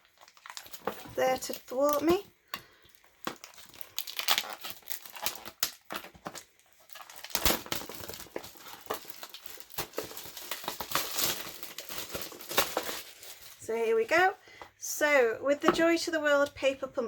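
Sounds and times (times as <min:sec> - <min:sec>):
plastic shrink wrap crinkling: 0:00.0 - 0:14.3.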